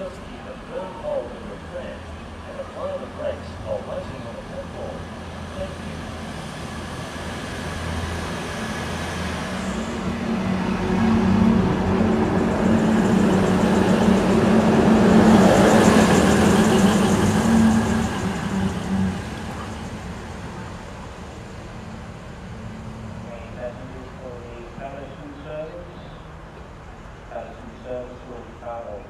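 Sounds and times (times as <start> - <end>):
diesel engine drone: 0.0 - 29.0
wheels rumbling on rail: 0.0 - 29.0.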